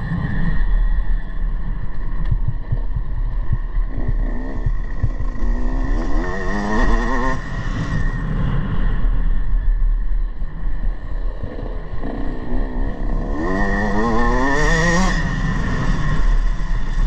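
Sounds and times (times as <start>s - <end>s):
motocross bike engine accelerating: 0.0s - 9.0s, 11.0s - 17.0s
constant low rumble: 0.0s - 17.0s.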